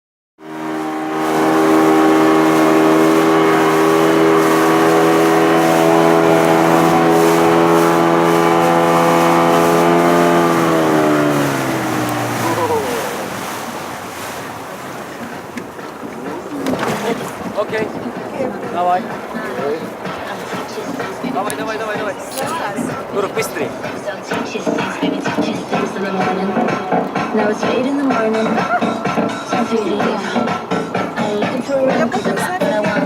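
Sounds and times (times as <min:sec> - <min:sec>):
motorboat engine running: 0:00.4 - 0:33.0
wind and water rushing: 0:00.4 - 0:33.0.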